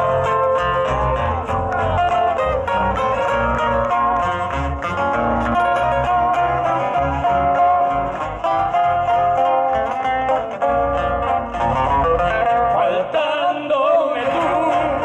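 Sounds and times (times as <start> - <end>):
accordion holding notes: 0.0 - 12.7
pulsing bass line: 0.0 - 12.8
acoustic guitars plucking: 0.0 - 15.0.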